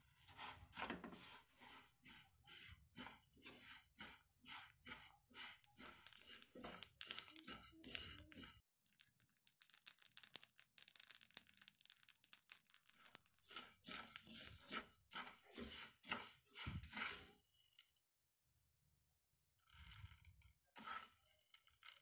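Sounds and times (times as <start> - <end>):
wooden spatula stirring: 0.0 - 10.1, 11.5 - 17.8, 20.7 - 22.0
rice grains roasting in a pan: 0.0 - 18.1, 19.6 - 22.0.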